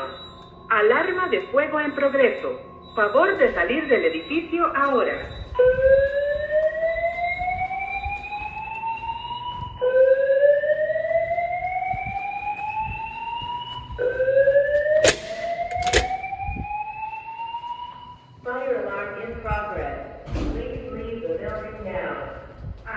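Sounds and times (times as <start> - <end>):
alarm speaker whoop tone: 0.0 - 18.4.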